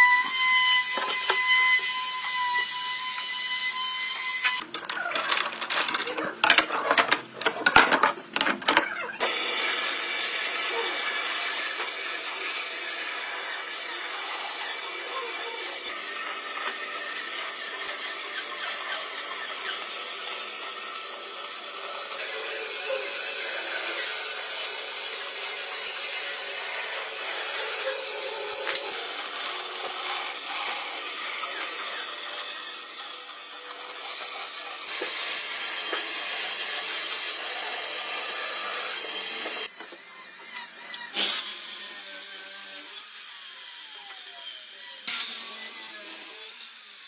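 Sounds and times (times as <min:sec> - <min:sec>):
power tool working wood: 0:00.0 - 0:47.0.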